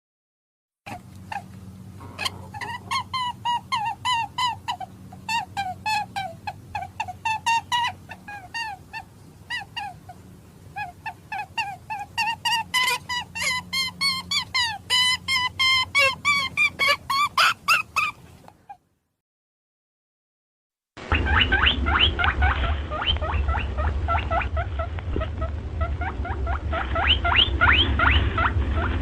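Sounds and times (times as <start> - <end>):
low steady hum: 0.9 - 18.8, 21.0 - 29.0
rabbit squeaking: 0.9 - 18.8, 21.1 - 29.0.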